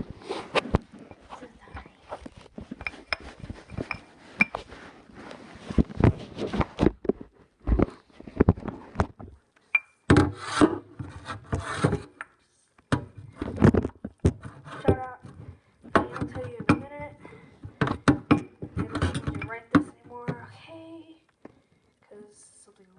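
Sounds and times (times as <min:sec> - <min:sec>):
objects rubbing and scraping: 0:00.0 - 0:09.3, 0:10.1 - 0:20.5.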